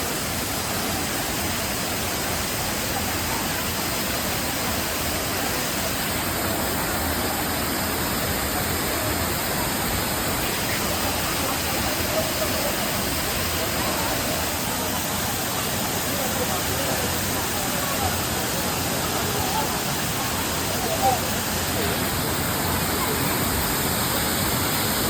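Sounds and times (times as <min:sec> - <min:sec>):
waterfall pouring: 0:00.0 - 0:25.0.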